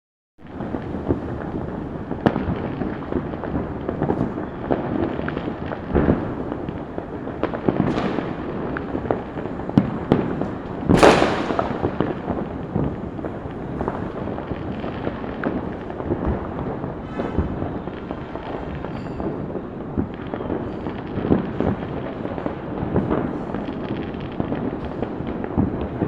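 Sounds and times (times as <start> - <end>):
firecrackers crackling: 0.4 - 26.0
firecracker bangs: 0.5 - 26.0.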